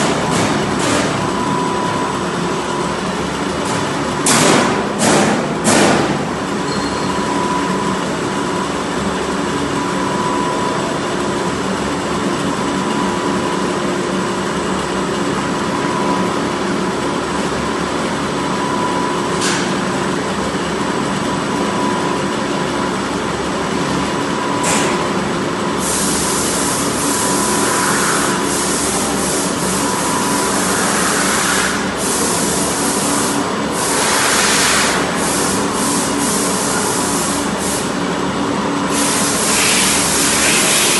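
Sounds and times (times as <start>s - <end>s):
pipe threading machine humming: 0.0s - 40.9s.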